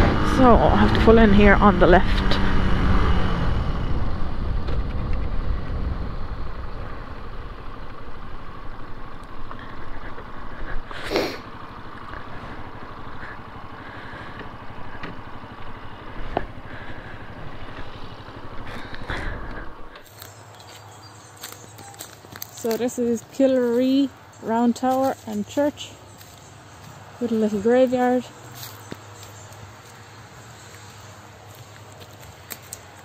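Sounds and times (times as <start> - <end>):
motorcycle engine idling: 3.8 - 33.0.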